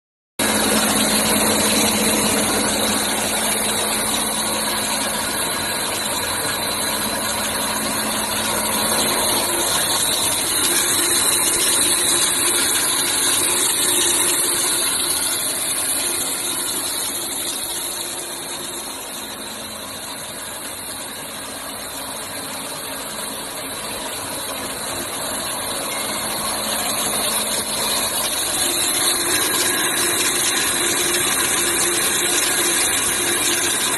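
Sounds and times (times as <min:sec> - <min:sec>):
pellet machine running: 0:00.4 - 0:33.9.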